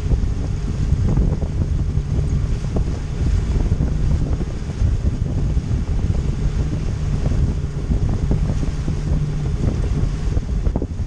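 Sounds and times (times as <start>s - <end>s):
outboard motor running: 0.0s - 11.0s
water rushing in wake: 0.0s - 11.0s
wind buffeting microphone: 0.0s - 11.0s.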